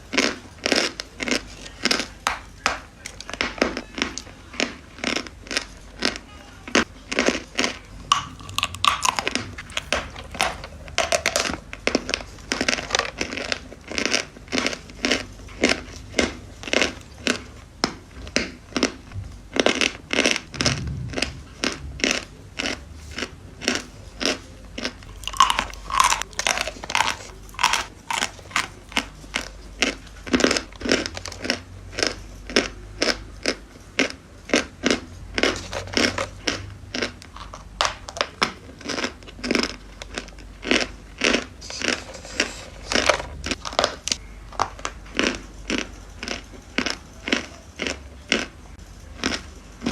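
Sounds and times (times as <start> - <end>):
chalk chewing crunches: 0.0 - 49.9.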